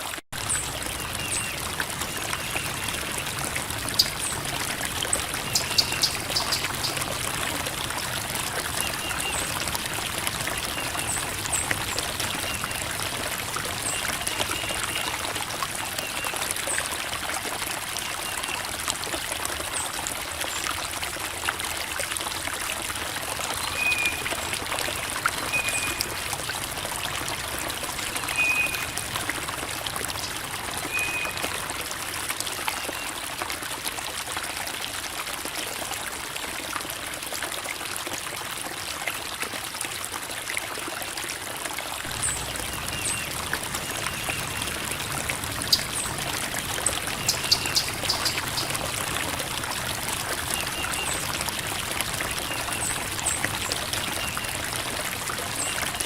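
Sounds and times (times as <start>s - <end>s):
creek water babbling over rocks: 0.0s - 56.0s.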